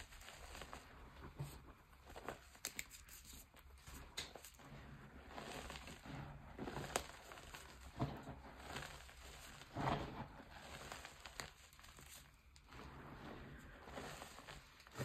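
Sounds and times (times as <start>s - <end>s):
hands crunching powdery chalk: 0.0s - 15.0s.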